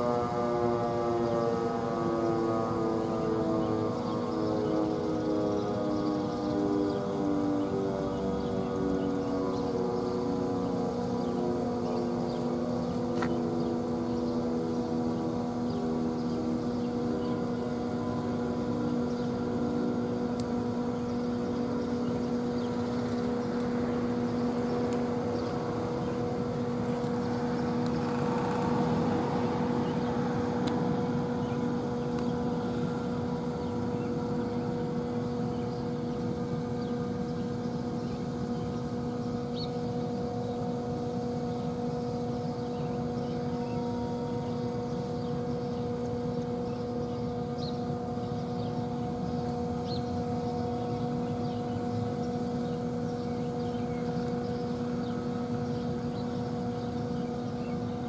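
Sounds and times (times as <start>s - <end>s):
warning siren steady tone: 0.0s - 58.0s.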